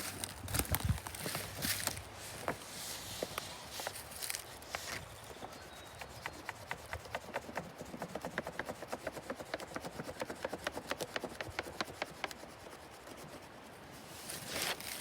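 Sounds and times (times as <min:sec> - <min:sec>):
crayon scratching over paper on bark: 0:01.2 - 0:15.0.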